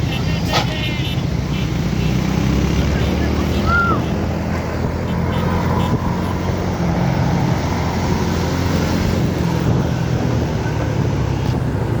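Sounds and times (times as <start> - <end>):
motorcycle engine drone: 0.0 - 12.0
road and wind noise: 0.0 - 12.0.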